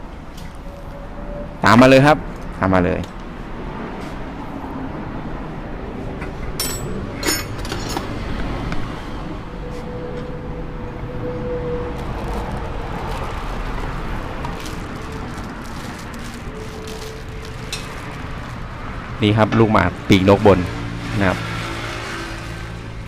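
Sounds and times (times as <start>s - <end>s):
passing vehicles: 0.0s - 23.0s.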